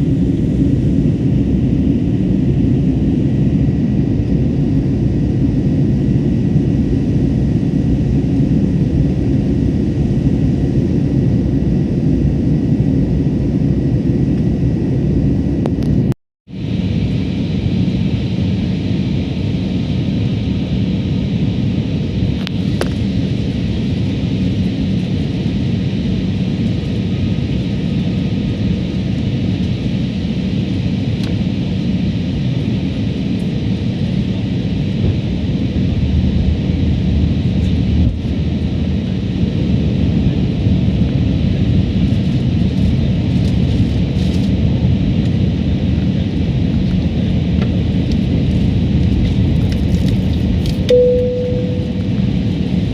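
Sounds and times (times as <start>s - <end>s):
engine rumble and rushing air: 0.0s - 52.9s.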